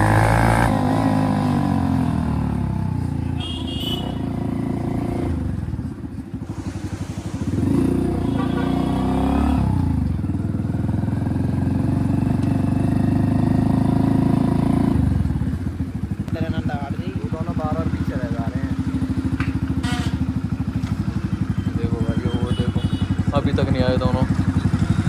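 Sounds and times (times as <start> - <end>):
motorcycle engine running loud: 0.0 - 25.0.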